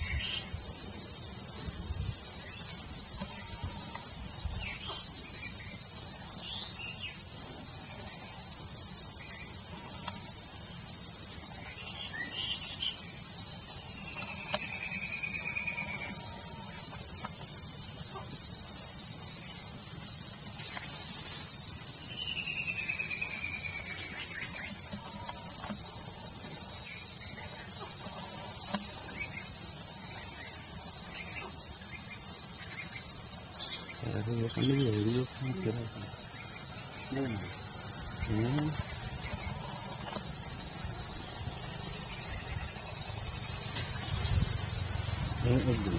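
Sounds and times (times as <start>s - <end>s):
insects shrilling: 0.0s - 45.9s.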